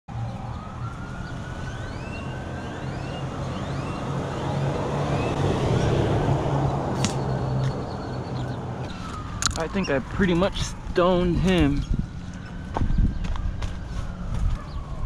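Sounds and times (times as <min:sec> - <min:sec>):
road traffic hum: 0:00.1 - 0:15.0
birds chirping: 0:00.2 - 0:13.8.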